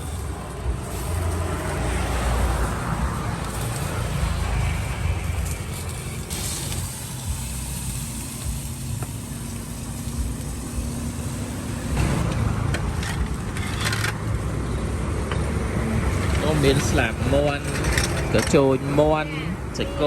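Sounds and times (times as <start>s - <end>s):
engine humming: 0.0s - 20.0s
road traffic rumble: 0.0s - 20.0s.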